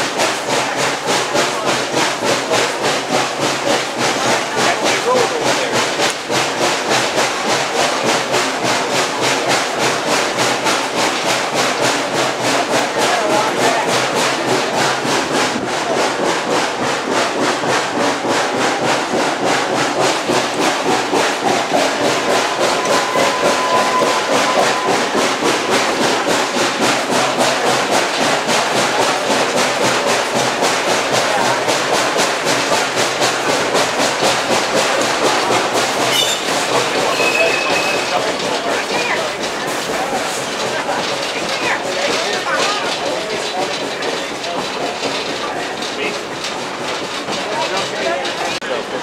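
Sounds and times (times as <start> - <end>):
steam locomotive chuffing: 0.0 - 49.0
train cars running: 0.0 - 49.0.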